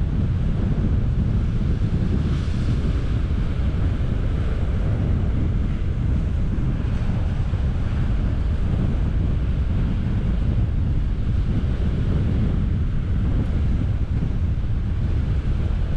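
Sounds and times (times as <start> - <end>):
sea surf against rocks: 0.0 - 15.9
wind buffeting microphone: 0.0 - 15.9.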